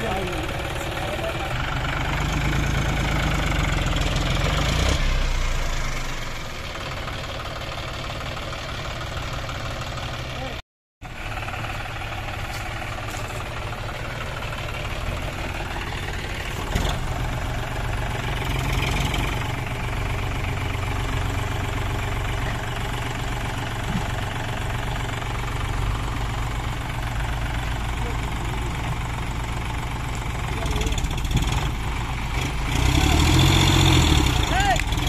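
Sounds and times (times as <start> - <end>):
diesel engines running under load: 0.0 - 35.0.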